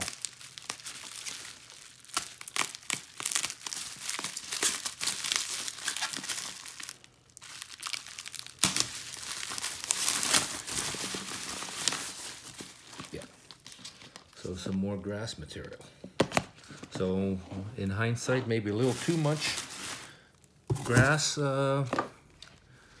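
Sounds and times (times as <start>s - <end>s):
bubble wrap crinkling: 0.0s - 14.9s, 18.6s - 22.7s.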